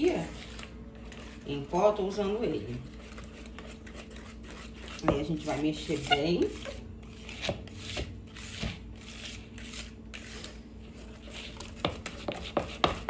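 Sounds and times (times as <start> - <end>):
whisk swishing in batter: 0.0 - 13.0.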